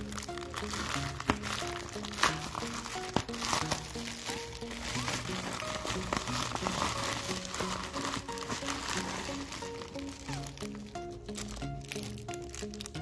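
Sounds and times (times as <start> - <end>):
background music with short notes: 0.0 - 13.0
plastic mailer bag crinkling: 0.0 - 13.0.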